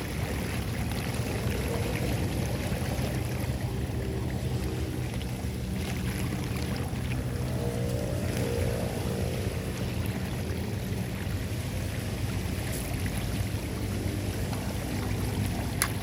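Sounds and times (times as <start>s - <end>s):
floodwater pouring down a drain: 0.0s - 16.0s.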